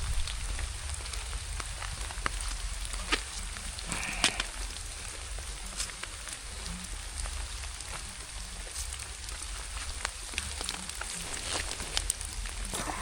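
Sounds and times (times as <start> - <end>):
raindrops ticking close by: 0.0 - 13.0
steady rain falling: 0.0 - 13.0.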